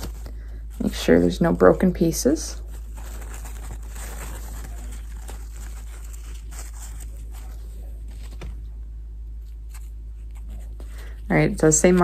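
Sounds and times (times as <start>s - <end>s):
tissue paper rustling and crinkling: 0.0s - 8.7s, 9.4s - 12.0s
low background hum: 0.0s - 12.0s.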